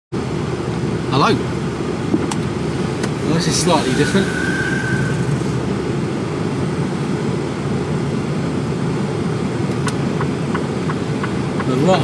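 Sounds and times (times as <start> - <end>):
truck diesel engine rumble: 0.2 - 12.0.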